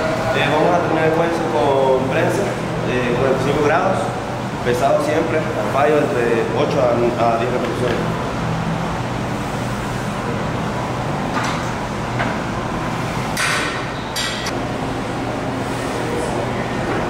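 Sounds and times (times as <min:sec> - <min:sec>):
room noise rumble: 0:00.0 - 0:17.0.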